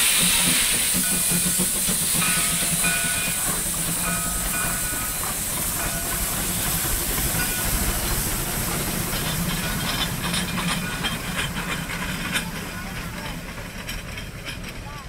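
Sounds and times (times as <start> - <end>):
steam hissing: 0.0 - 14.9
locomotive low rumble: 0.0 - 15.0
metallic clicking and clanking wheels: 0.4 - 15.0.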